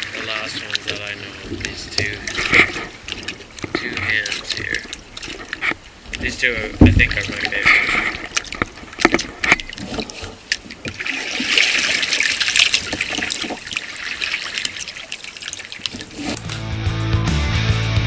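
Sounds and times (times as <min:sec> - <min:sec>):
water trickling and splashing: 0:00.0 - 0:16.5
paddle dripping: 0:00.0 - 0:16.8.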